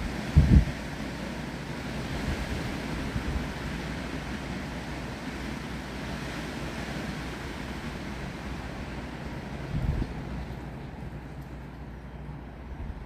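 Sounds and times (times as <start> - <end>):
wind buffeting microphone: 0.0 - 11.3
wind and rain through trees: 0.0 - 13.0.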